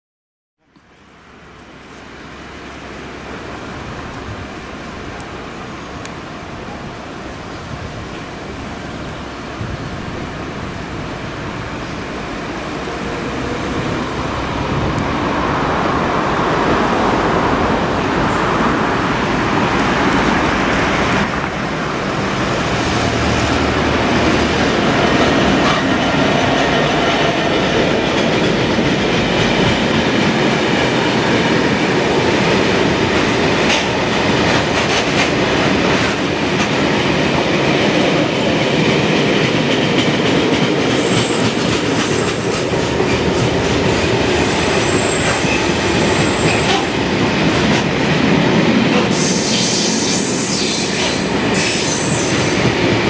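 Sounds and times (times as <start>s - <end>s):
diesel locomotive passing: 1.0s - 53.0s.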